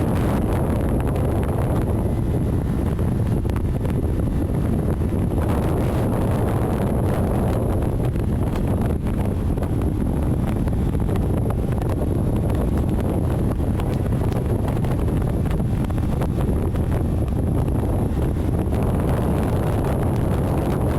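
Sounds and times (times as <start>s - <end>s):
road noise: 0.0s - 20.9s
wind buffeting microphone: 0.0s - 20.9s.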